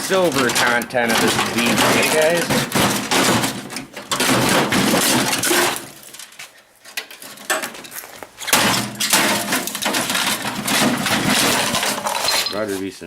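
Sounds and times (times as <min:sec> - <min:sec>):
metal and plastic parts clattering: 0:00.0 - 0:12.7.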